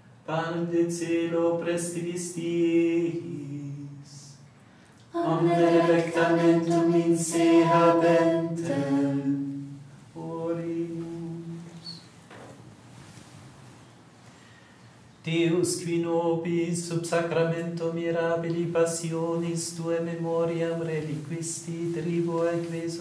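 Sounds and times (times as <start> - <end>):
man singing liturgical chant: 0.2 - 4.4, 5.2 - 11.9, 15.2 - 23.0.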